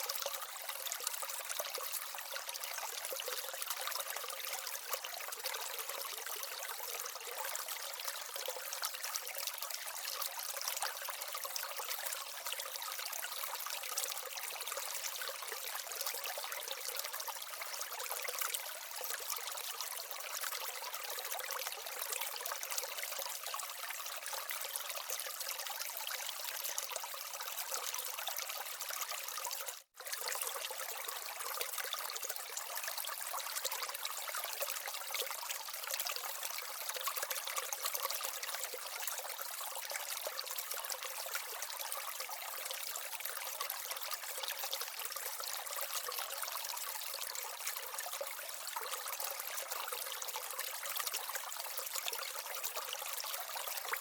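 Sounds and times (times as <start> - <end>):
water trickling down small waterfall: 0.0 - 54.0.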